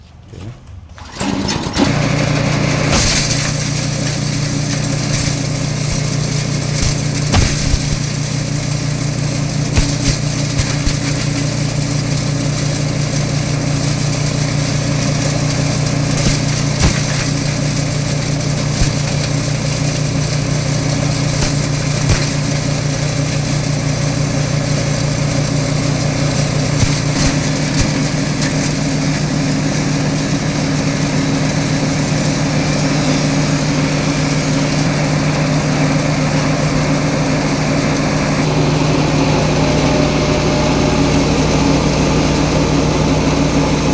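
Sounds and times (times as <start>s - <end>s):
grass chopper engine droning: 1.2s - 43.9s.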